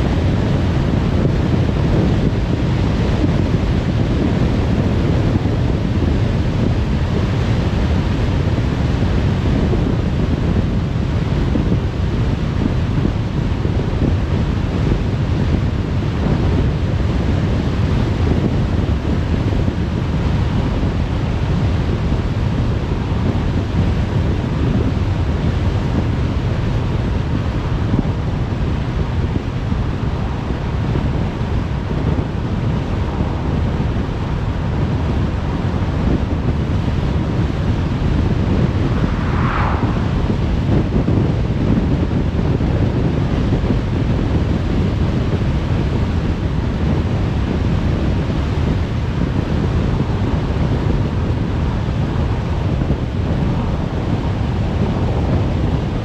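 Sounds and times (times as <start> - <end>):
rushing wind: 0.0 - 56.0.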